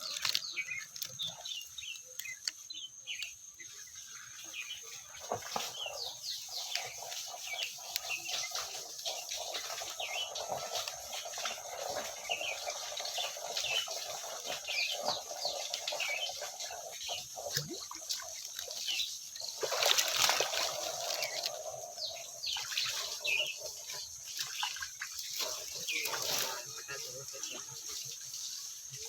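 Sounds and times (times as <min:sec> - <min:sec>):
birds chirping: 0:00.0 - 0:29.0
water splashing and trickling: 0:00.0 - 0:29.0.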